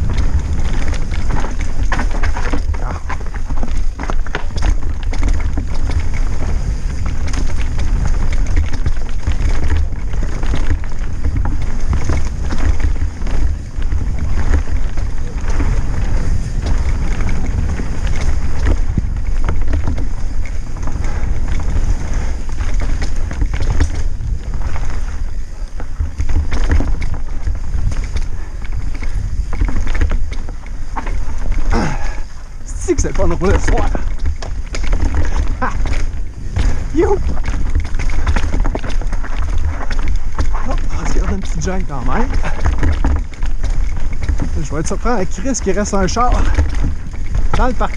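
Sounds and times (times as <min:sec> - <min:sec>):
bike knocks and rattles: 0:00.0 - 0:47.9
wind buffeting microphone: 0:00.0 - 0:47.9.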